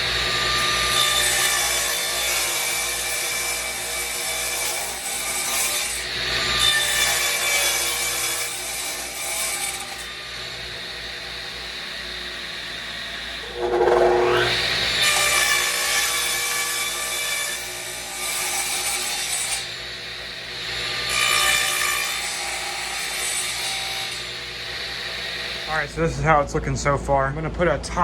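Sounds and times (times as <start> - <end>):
electric saw cutting wood: 0.0 - 25.7.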